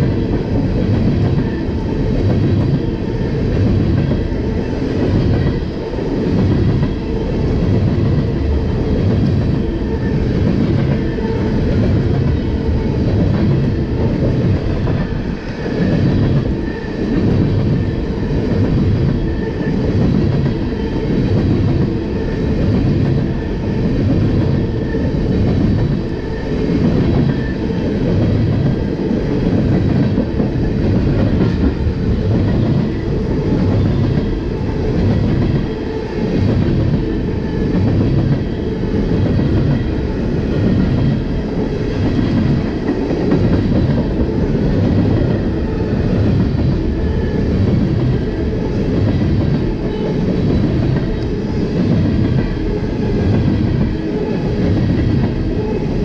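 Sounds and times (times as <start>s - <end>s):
train wheels clattering over rails: 0.0s - 56.0s.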